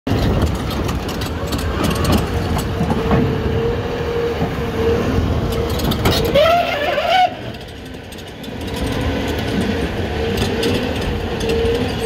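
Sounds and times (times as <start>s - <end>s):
crawler tracks clanking: 0.1s - 12.0s
excavator engine running: 0.1s - 12.0s.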